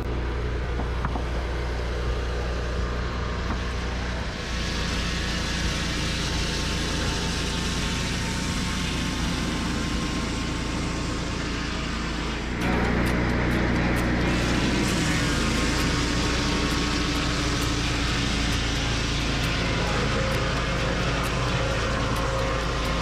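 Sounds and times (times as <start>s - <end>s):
sawmill engine running: 0.0s - 23.0s
saw blade cutting wood: 4.1s - 23.0s.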